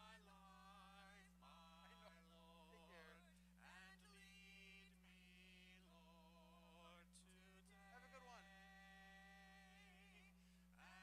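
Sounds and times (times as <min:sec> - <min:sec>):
faint singing: 0:00.0 - 0:11.0.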